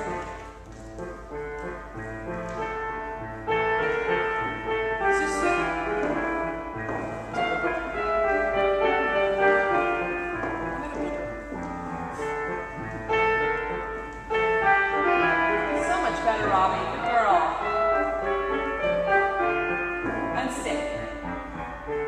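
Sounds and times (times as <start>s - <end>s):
instrumental ballet class music: 0.0s - 22.0s.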